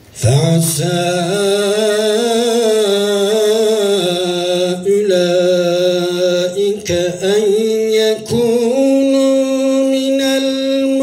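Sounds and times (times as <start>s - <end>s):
man chanting melodically: 0.1s - 11.0s.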